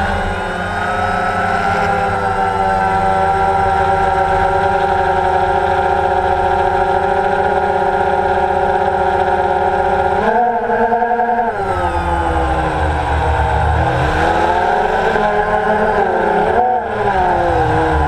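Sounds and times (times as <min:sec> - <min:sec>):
drone motors humming: 0:00.0 - 0:18.0.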